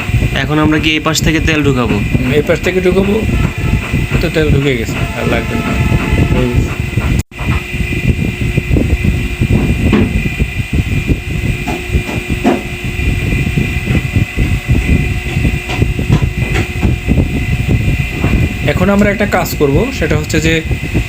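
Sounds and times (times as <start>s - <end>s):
high-pitched whine: 0.0s - 21.0s
refrigerator compressor rumbling: 0.0s - 21.0s.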